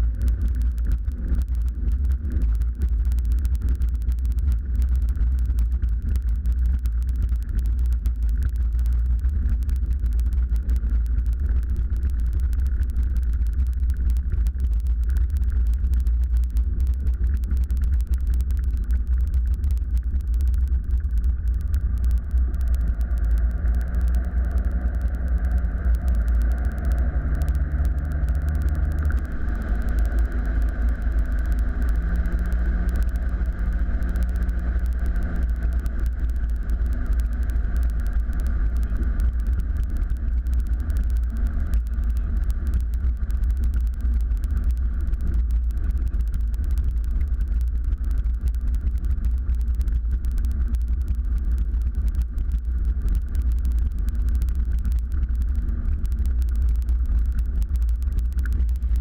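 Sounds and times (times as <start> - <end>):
deep steady rumble: 0.0 - 59.0.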